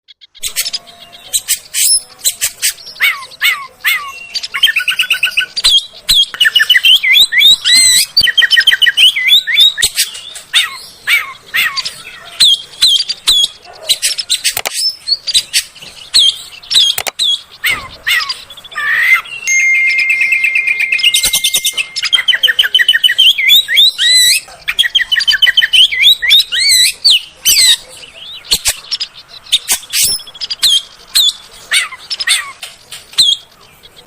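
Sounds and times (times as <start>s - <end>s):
songbird singing: 0.1s - 34.0s.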